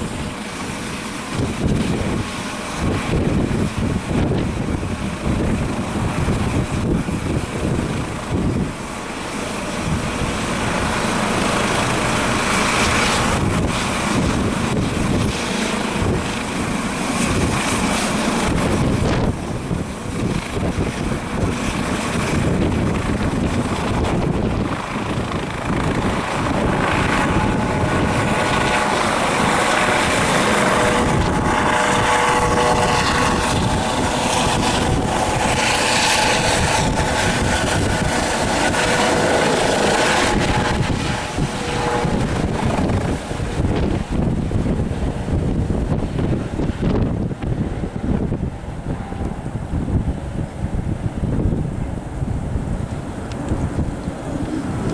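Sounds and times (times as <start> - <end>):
helicopter rotor and turbines: 0.0 - 54.9
steady multi-tone whine: 0.0 - 54.9.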